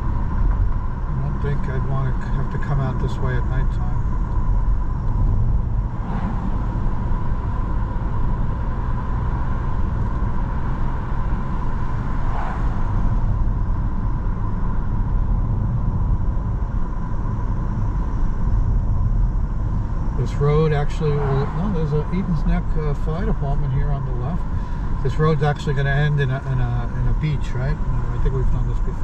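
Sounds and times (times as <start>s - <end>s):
car road and engine rumble: 0.0s - 29.0s
faint steady whine: 0.0s - 29.0s.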